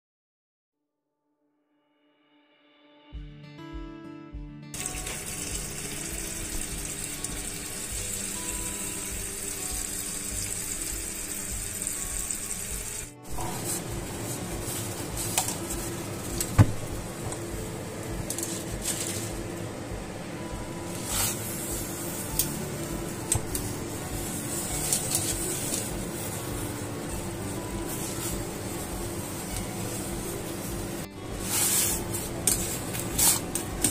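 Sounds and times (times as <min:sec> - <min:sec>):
background music: 0:02.2 - 0:33.9
water boiling in a pot: 0:04.8 - 0:19.9, 0:20.7 - 0:33.9.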